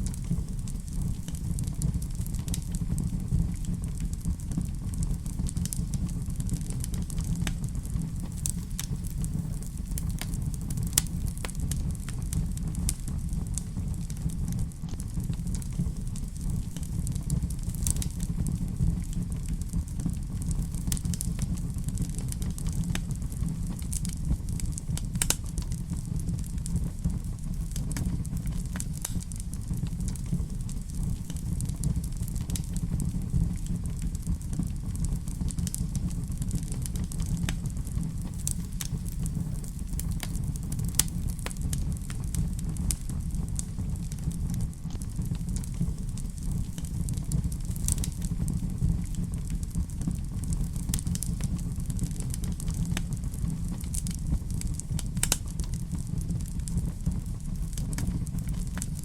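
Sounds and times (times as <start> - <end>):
fire crackles and pops: 0.0 - 59.0
fire low rumble: 0.0 - 59.0.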